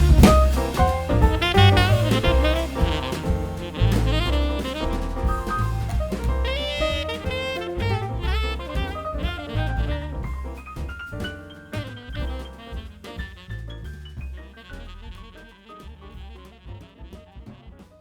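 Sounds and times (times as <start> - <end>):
upbeat jazz with saxophone: 0.0 - 18.0.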